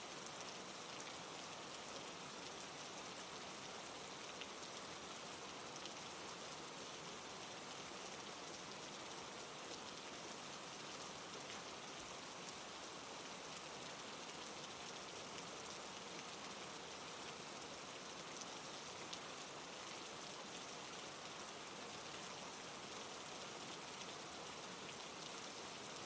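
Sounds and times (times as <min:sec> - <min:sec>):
gentle rainfall: 0:00.0 - 0:26.0.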